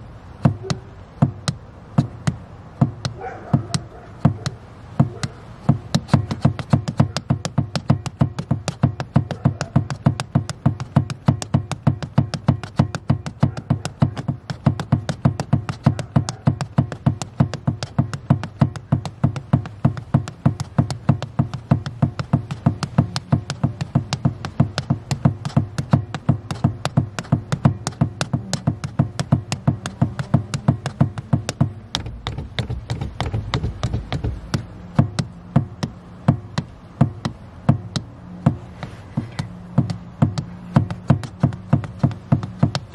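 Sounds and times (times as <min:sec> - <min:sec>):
accelerator pedal taps and clicks: 0:00.4 - 0:42.9.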